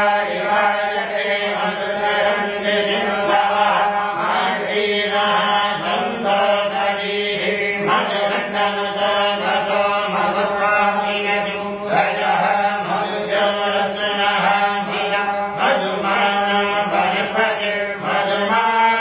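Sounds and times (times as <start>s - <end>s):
person chanting: 0.0s - 19.0s
steady held drone: 0.0s - 19.0s.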